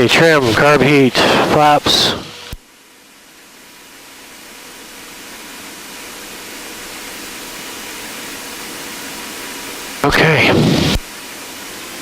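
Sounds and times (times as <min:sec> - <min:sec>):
airplane engine and propeller: 0:00.0 - 0:02.6, 0:03.8 - 0:12.0.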